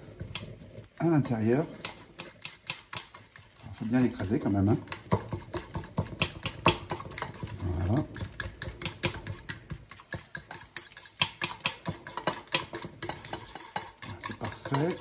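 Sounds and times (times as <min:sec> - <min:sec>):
fork scraping a steel bowl: 0:00.0 - 0:15.0.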